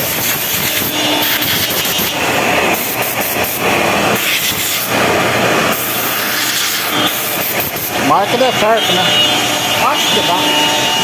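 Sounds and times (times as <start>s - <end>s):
cnc router milling wood: 0.0s - 11.0s
dust extraction running: 0.0s - 11.0s.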